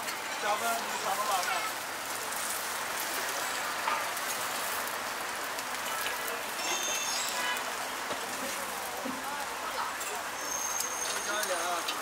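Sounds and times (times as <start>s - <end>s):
oil sizzling on griddle: 0.0s - 12.0s.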